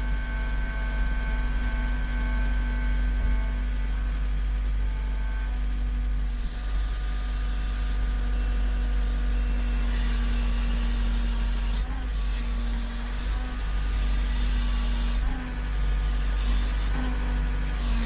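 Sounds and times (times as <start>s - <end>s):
heavy equipment engine rumbling: 0.0s - 9.7s, 10.7s - 18.0s.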